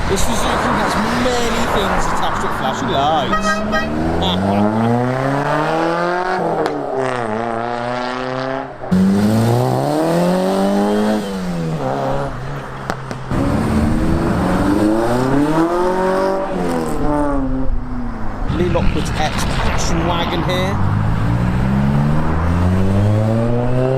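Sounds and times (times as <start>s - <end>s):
car engines accelerating: 0.0s - 23.9s.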